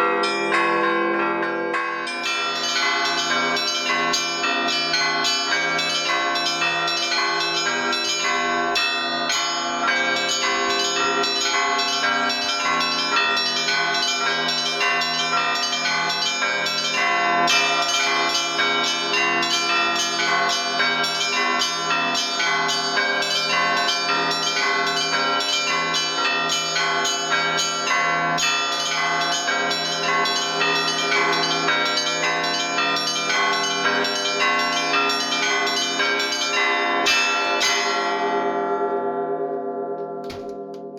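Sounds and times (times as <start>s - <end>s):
small bells chiming fast: 0.0s - 38.7s.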